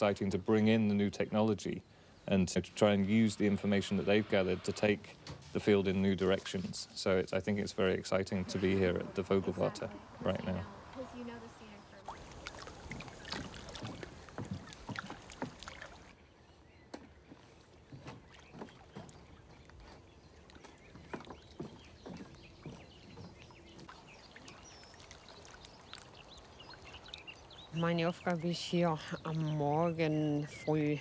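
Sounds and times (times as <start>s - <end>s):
water lapping at lake edge: 0.0s - 31.0s.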